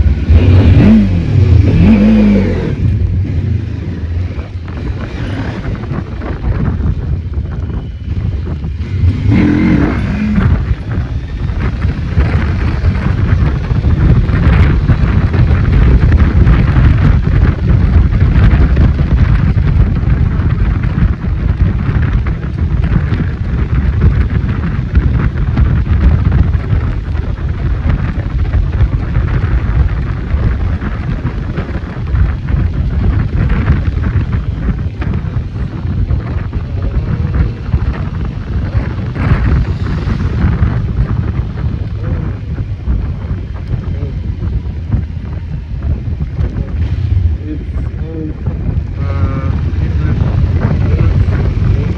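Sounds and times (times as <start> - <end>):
motorcycle engine: 0.0 - 51.9
wind rush on microphone: 0.0 - 51.9.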